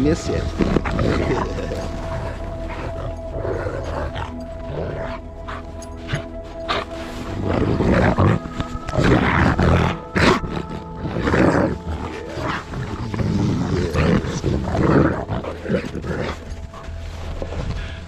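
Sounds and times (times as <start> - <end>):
dog growly vocalizations: 0.2 - 17.9.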